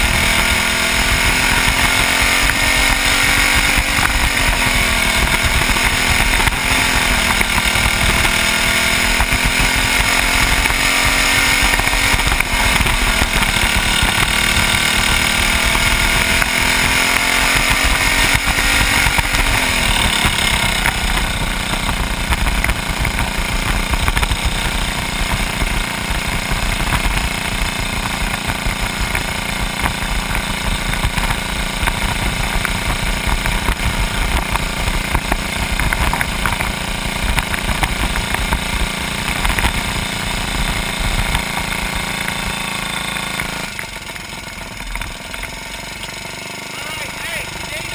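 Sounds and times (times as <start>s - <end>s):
kart engine running hard: 0.0s - 47.9s.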